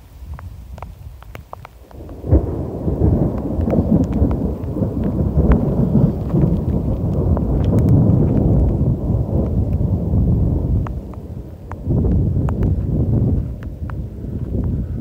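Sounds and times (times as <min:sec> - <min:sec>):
raindrops ticking: 0:00.0 - 0:15.0
thunder rumbling: 0:00.0 - 0:15.0.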